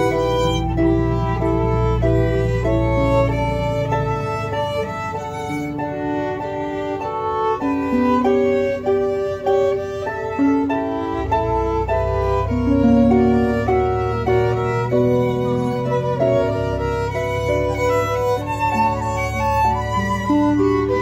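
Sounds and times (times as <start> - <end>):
harp: 0.0 - 21.0
violins playing fiddle tune: 0.0 - 21.0.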